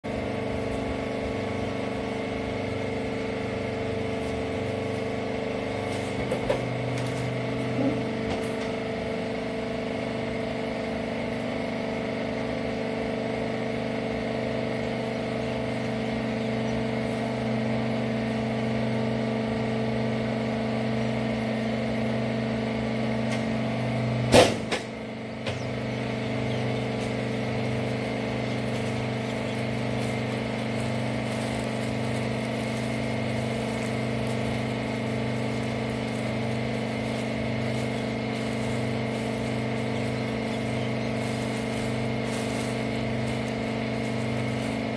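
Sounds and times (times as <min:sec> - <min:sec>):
baler machine drone: 0:00.0 - 0:44.9.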